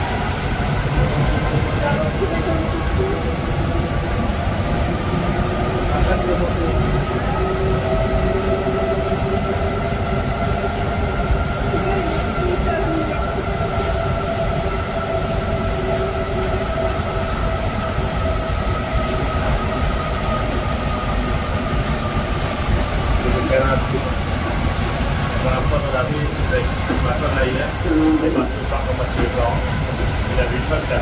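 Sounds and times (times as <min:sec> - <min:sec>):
train rumbling in tunnel: 0:00.0 - 0:31.0.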